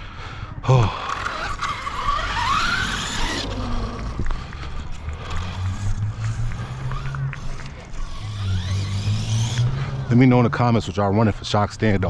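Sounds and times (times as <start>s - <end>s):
electric motor whine: 0.7s - 10.7s
tyres skidding on ground: 0.9s - 11.6s.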